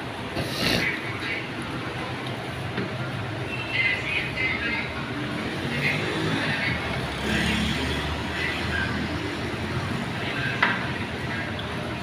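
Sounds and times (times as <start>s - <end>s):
faint chatter: 0.0s - 12.0s.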